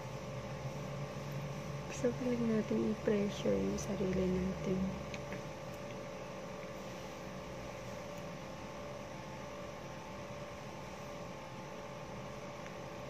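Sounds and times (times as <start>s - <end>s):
faint constant tone: 0.0s - 13.0s
low electrical hum: 0.0s - 13.0s.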